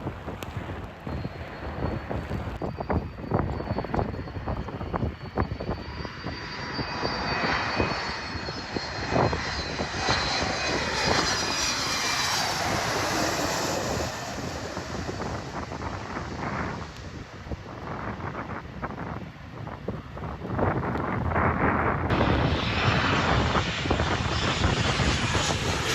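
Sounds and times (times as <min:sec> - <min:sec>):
high engine whine: 0:00.0 - 0:18.6, 0:22.0 - 0:25.9
jet airliner passing: 0:00.0 - 0:25.9
wind buffeting microphone: 0:00.0 - 0:25.9.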